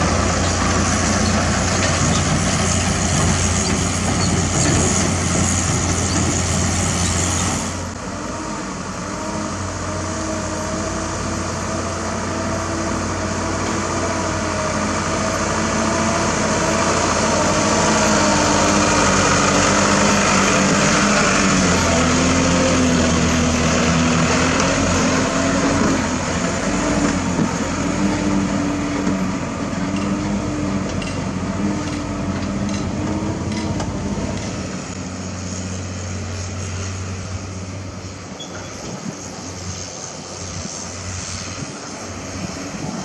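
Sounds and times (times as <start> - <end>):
diesel truck engine driving off: 0.0 - 39.6.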